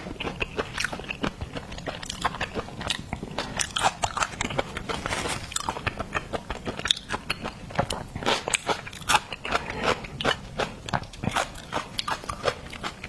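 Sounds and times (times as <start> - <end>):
chewing seafood: 0.0 - 13.0.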